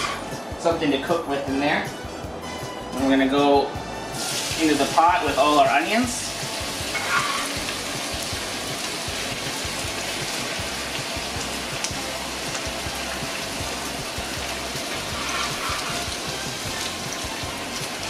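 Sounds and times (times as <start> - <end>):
onions sizzling in hot oil: 0.0 - 0.6, 4.1 - 18.0
quiet background music: 0.0 - 18.0.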